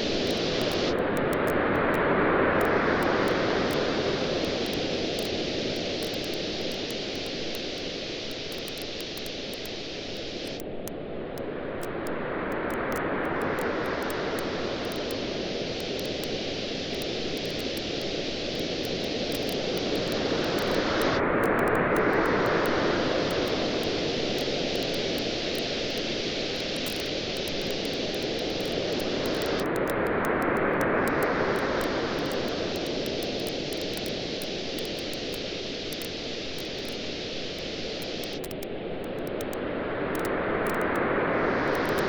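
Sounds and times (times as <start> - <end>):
ocean waves washing onto beach: 0.0 - 10.6, 11.2 - 42.0
campfire crackling: 2.6 - 10.8, 12.7 - 39.6.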